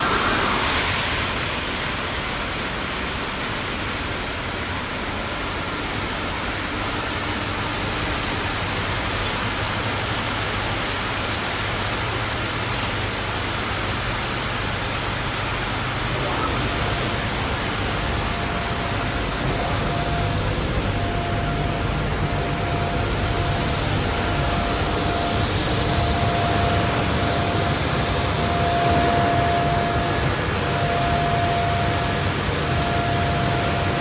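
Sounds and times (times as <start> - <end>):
water spraying: 0.0 - 33.9
low machine hum: 0.0 - 34.0.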